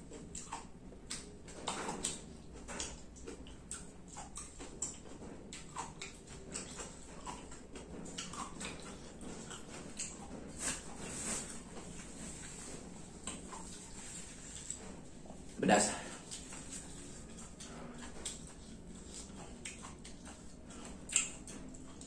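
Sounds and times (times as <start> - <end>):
person chewing and lip-smacking: 0.0 - 22.0.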